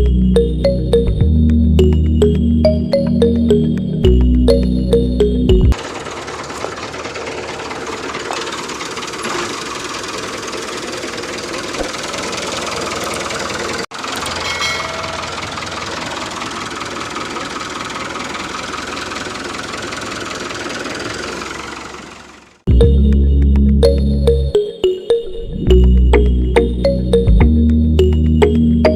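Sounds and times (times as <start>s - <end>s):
tractor engine running: 0.0s - 24.5s.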